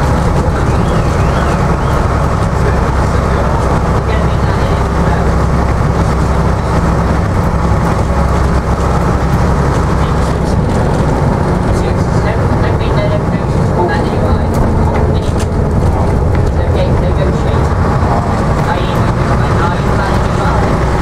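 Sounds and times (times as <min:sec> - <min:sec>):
bus body rattling: 0:00.0 - 0:21.0
bus diesel engine running: 0:00.0 - 0:21.0
road noise: 0:00.0 - 0:21.0.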